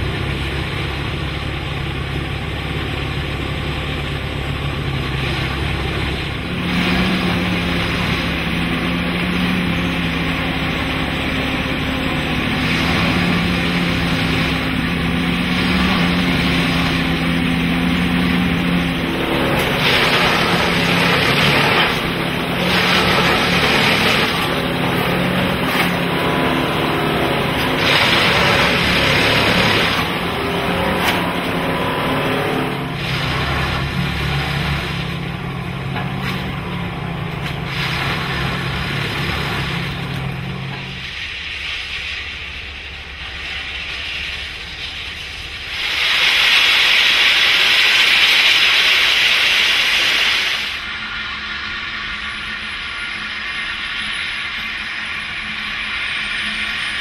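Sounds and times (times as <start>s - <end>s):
machine diesel hydraulic drone: 0.0s - 57.0s
hissing rattling bursts: 5.1s - 57.0s.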